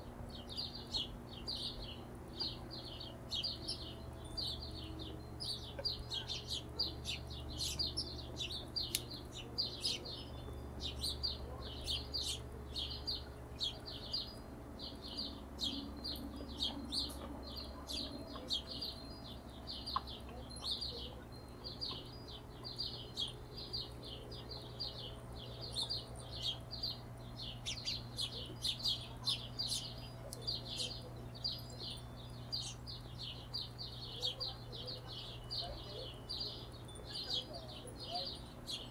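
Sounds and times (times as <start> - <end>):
hummingbirds chittering: 0.0 - 38.9
low steady hum: 0.0 - 38.9.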